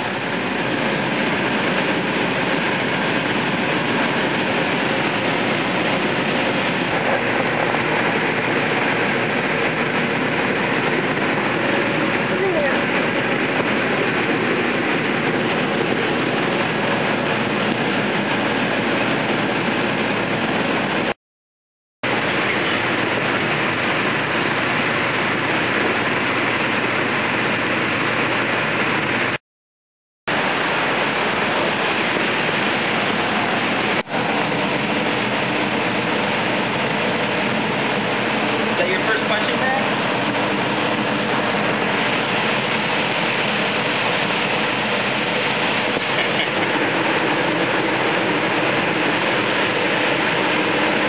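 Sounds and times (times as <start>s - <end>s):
air blower rushing: 0.0s - 21.2s, 22.0s - 29.4s, 30.3s - 51.0s.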